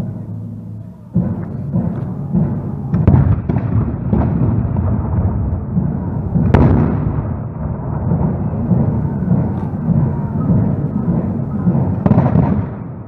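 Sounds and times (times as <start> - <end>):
continuous low rumble: 0.0 - 13.0
cannon and musket shots: 1.1 - 13.0.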